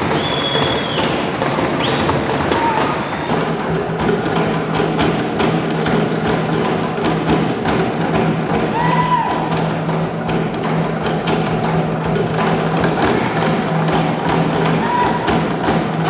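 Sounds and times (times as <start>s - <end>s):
wooden percussion beat: 0.0s - 16.0s.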